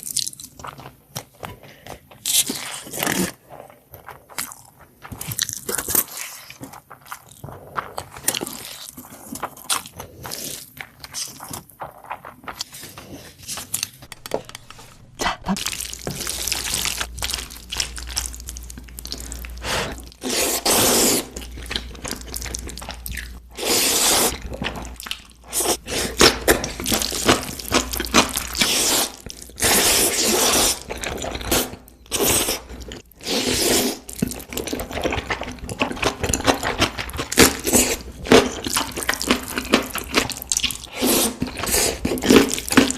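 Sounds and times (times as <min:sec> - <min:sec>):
wet slurps and chewing: 0:01.9 - 0:42.9.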